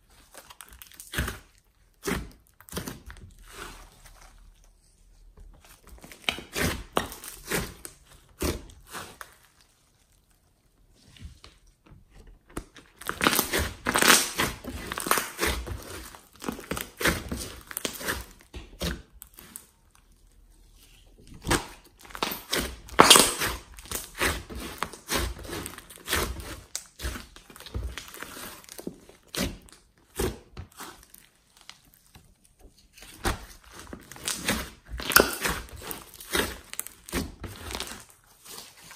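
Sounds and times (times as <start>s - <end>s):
slime squelching: 0.0s - 38.9s.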